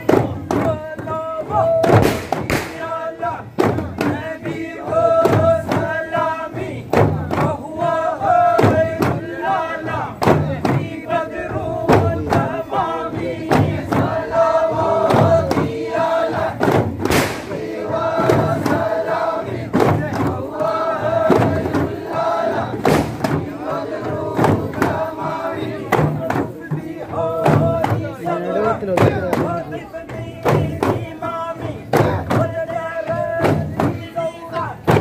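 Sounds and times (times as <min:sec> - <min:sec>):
frame drum strokes: 0:00.0 - 0:07.6, 0:08.2 - 0:35.0
men chanting in unison: 0:00.0 - 0:35.0.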